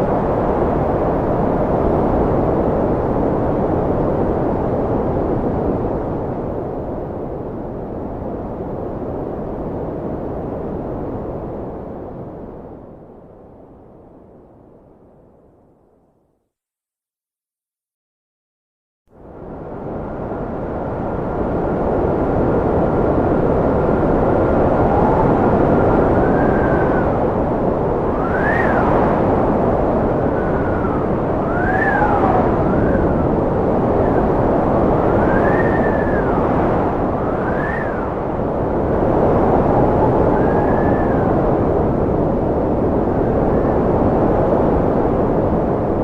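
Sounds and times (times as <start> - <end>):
wind howling and whistling: 0.0 - 16.0, 19.1 - 46.0.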